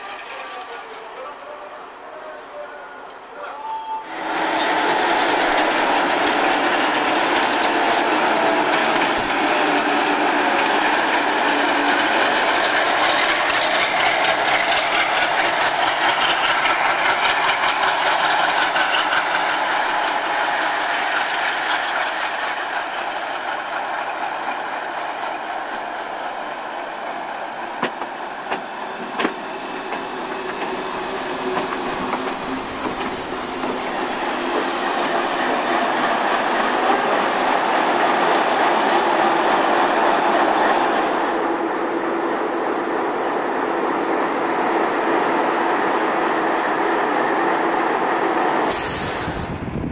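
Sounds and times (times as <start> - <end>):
diesel locomotive running: 4.0 - 49.9.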